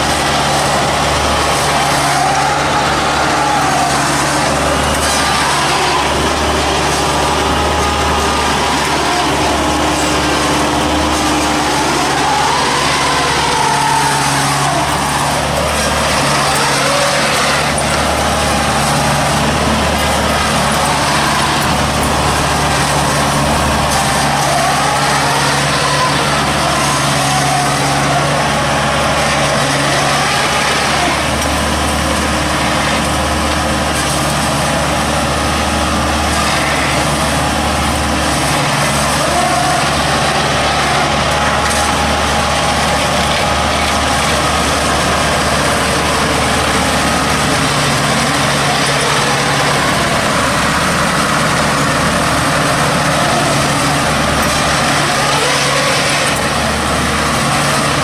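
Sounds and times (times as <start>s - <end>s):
machine engine running: 0.0s - 58.0s.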